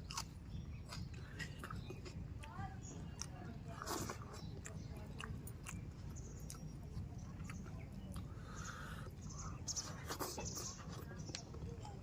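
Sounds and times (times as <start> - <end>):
person chewing: 0.0 - 2.5, 3.1 - 11.9.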